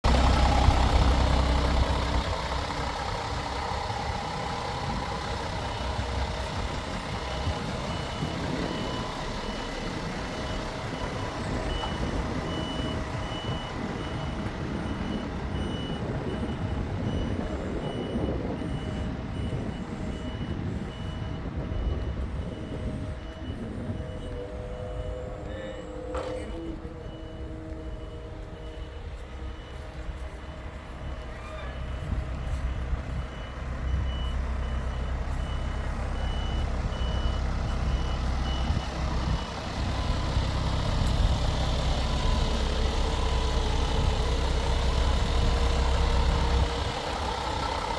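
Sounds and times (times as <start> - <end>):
heavy truck engine rumbling: 0.0 - 47.9
reversing alarm beeping: 0.1 - 47.9.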